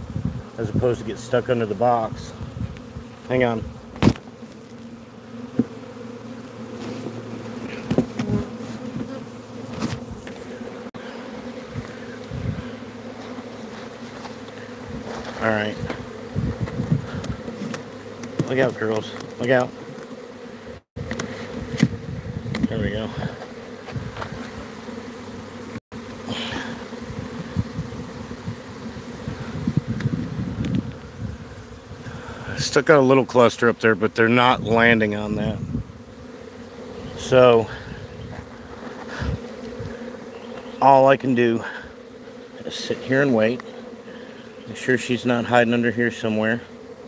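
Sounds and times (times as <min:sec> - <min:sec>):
bee swarm buzzing: 0:00.0 - 0:47.0.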